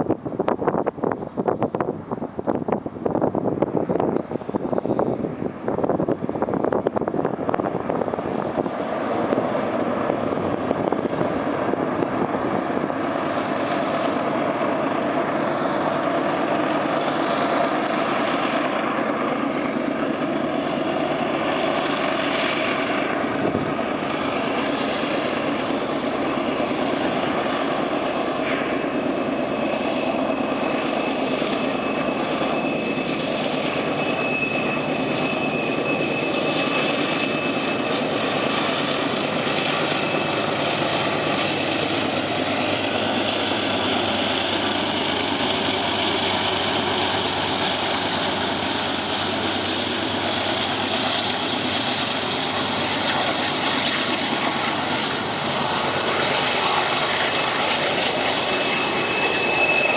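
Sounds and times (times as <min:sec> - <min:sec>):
diesel locomotives rumbling: 0:00.0 - 0:59.9.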